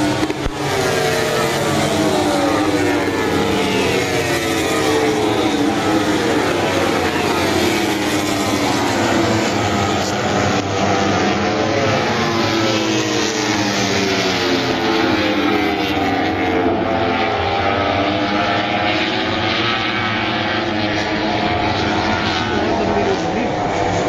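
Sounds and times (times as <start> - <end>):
racing motorcycles passing: 0.0 - 24.0.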